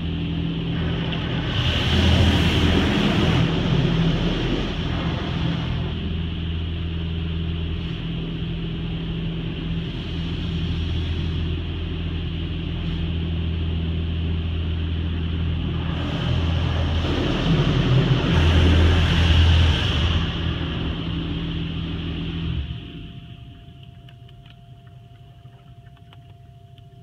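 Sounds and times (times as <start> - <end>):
low machinery hum: 0.0 - 27.0.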